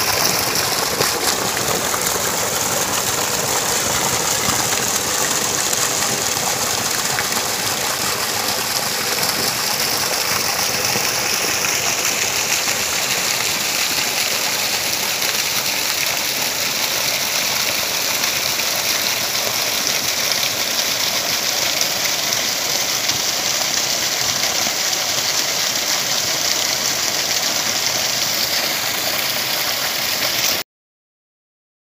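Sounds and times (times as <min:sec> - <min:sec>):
waterfall pouring over rocks: 0:00.0 - 0:30.6.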